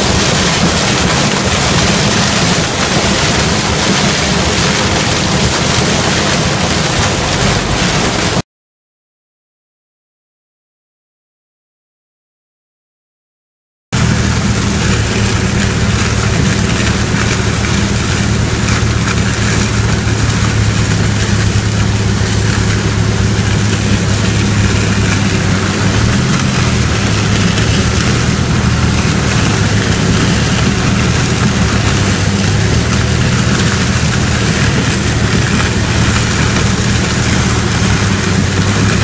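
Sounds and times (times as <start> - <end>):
combine harvester drone: 0.0 - 8.4, 14.0 - 39.0.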